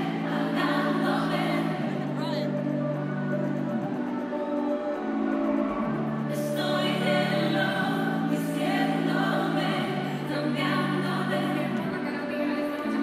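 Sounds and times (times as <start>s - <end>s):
live concert music with singing: 0.0s - 13.0s.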